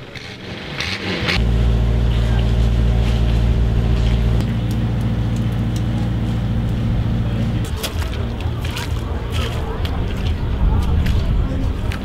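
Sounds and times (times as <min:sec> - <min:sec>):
diesel tractor engines idling: 0:01.4 - 0:11.1.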